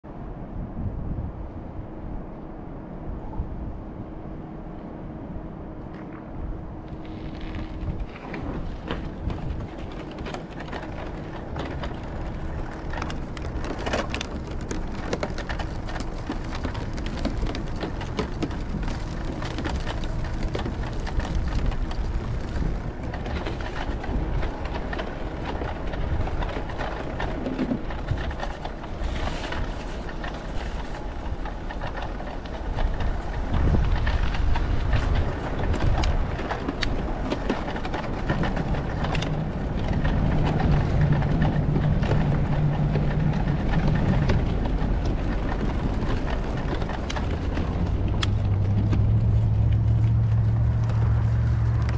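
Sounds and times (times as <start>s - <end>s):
wind buffeting microphone: 0.0s - 51.9s
bicycle tyre noise: 5.9s - 51.9s
small crackles and rattles: 6.8s - 51.9s.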